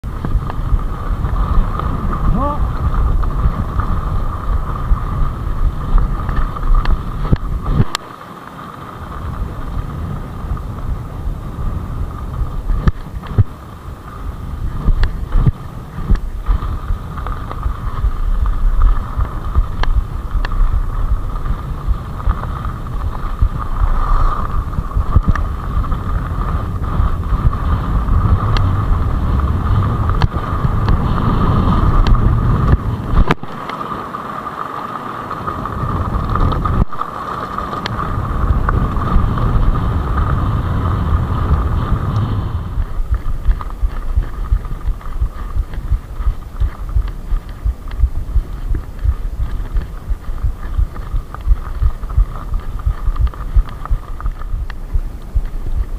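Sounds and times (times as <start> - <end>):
bike clicking and rattling: 0.0 - 55.9
bike tyres on loose gravel: 0.0 - 55.9
wind buffeting microphone: 0.0 - 55.9.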